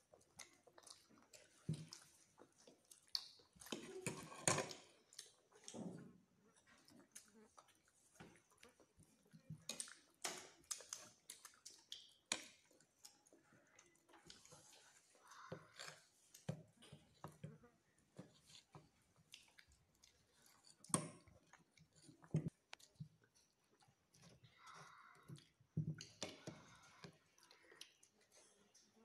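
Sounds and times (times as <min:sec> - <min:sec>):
children chewing: 0:00.0 - 0:29.0.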